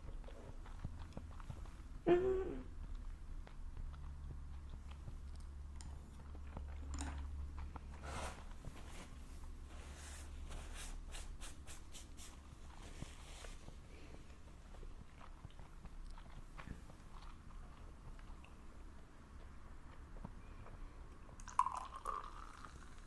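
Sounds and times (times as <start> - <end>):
person chewing food: 0.0 - 9.9, 12.4 - 22.8.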